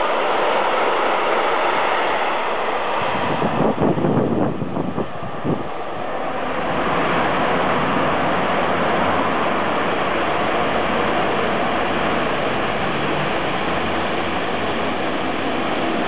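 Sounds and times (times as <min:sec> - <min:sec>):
approaching train rushing: 0:00.0 - 0:16.0.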